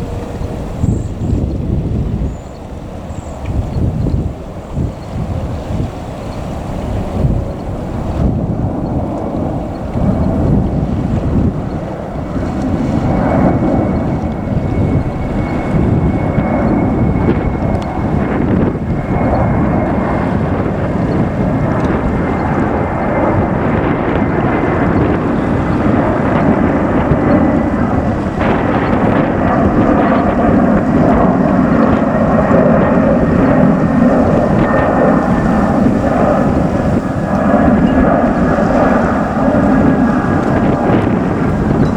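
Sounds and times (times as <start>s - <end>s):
faint high jet whine: 0.0s - 41.9s
jet engines rumbling: 0.0s - 41.9s.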